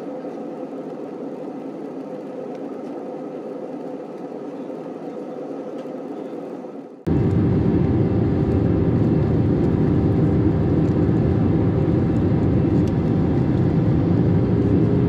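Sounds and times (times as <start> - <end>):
aircraft engine drone: 0.0 - 15.0
constant low hum: 0.0 - 15.0
rushing airflow in cabin: 0.0 - 15.0.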